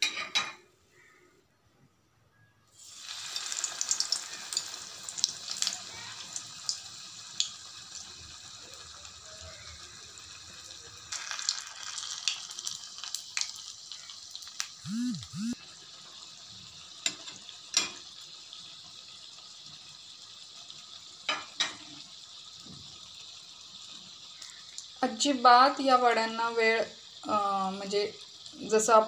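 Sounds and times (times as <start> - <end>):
batter sizzling in hot oil: 2.7 - 29.0.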